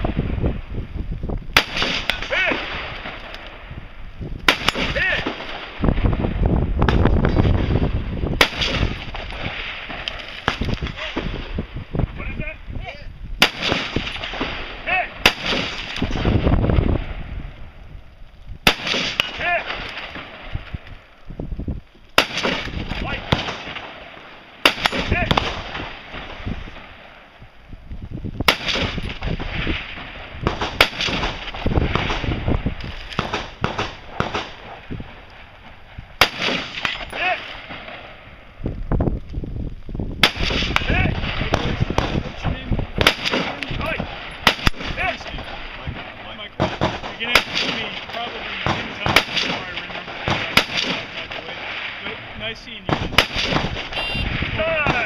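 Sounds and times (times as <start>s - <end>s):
rifle shots: 1.6s - 3.6s, 4.4s - 6.2s, 6.9s - 11.6s, 13.4s - 17.3s, 18.6s - 20.8s, 22.2s - 27.3s, 28.4s - 38.3s, 40.2s - 55.0s.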